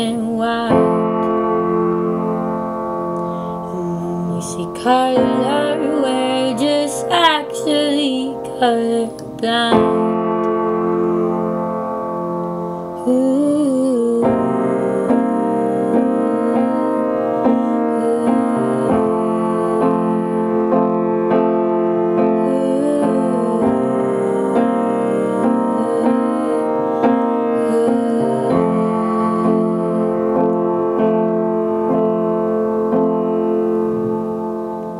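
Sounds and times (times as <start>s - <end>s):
upright piano chords: 0.0s - 34.9s.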